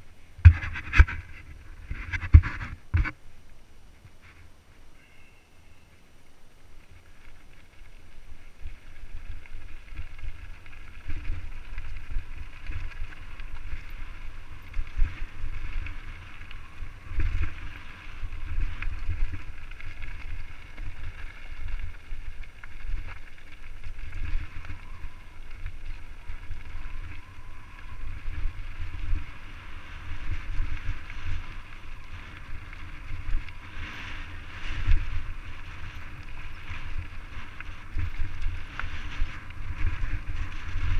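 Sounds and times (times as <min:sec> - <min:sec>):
tyres crunching over gravel: 0:06.8 - 0:40.9
wind buffeting microphone: 0:07.0 - 0:40.9.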